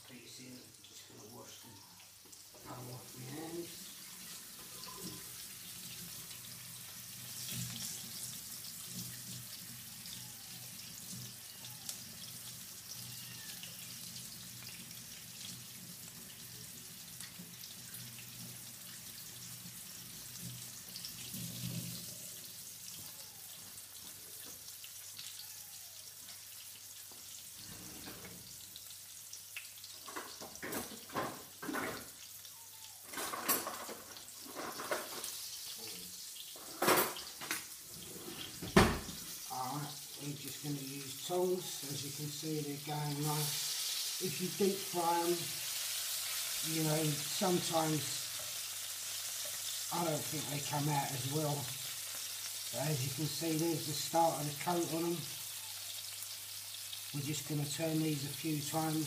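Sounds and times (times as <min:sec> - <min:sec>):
chicken sizzling in oil: 0:00.0 - 0:59.0.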